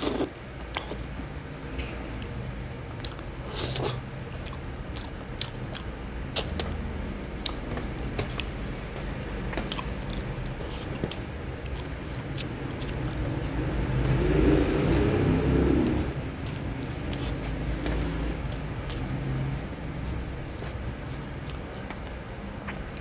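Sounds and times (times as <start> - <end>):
person chewing with wet smacks: 0.0 - 1.1, 2.9 - 6.8, 7.4 - 15.1, 16.3 - 23.0.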